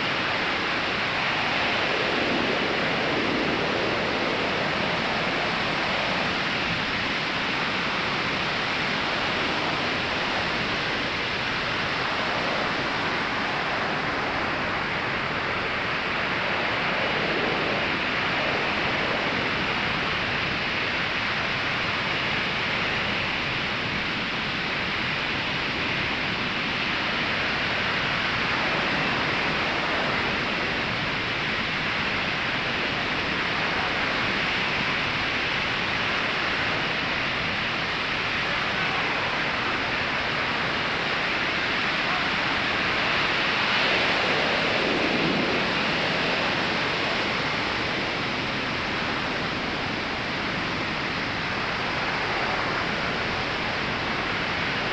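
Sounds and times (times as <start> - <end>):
ocean surf breaking on beach: 0.0 - 54.9.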